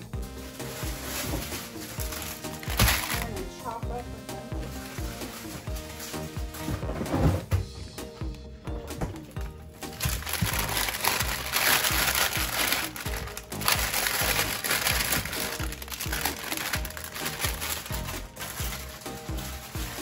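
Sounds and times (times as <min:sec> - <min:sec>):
background music: 0:00.0 - 0:20.0
plastic bag crinkling: 0:00.3 - 0:07.5, 0:09.8 - 0:20.0.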